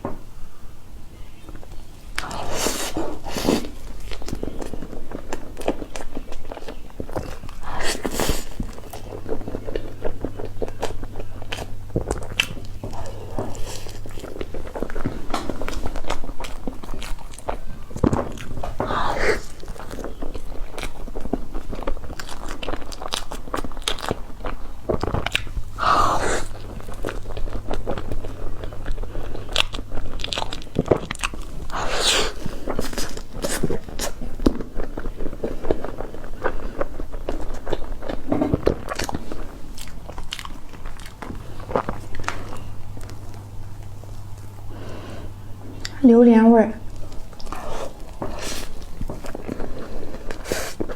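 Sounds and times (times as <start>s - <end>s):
person chewing cake: 1.2s - 46.0s, 46.8s - 50.9s.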